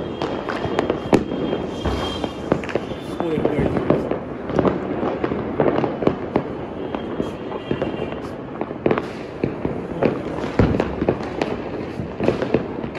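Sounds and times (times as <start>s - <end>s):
deep firework bang: 0.0s - 12.9s
firecrackers crackling and popping: 0.0s - 12.9s.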